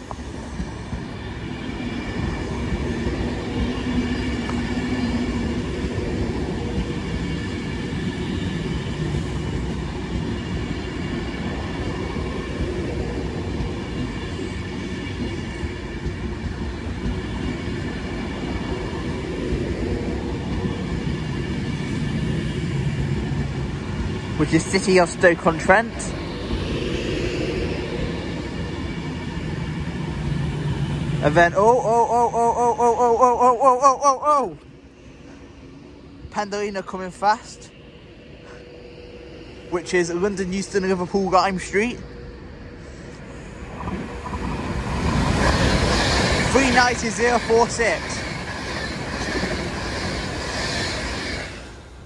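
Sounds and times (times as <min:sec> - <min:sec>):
train wheels rumbling: 0:00.0 - 0:52.0.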